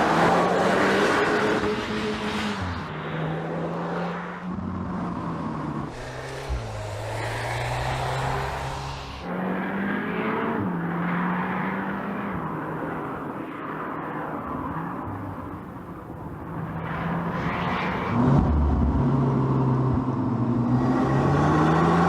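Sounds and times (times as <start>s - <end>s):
road and tyre noise: 0.0s - 22.0s.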